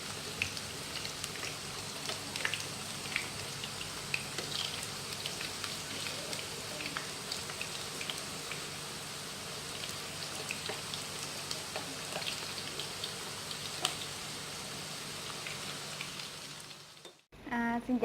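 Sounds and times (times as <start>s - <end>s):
deep-frying sizzle: 0.0s - 17.3s.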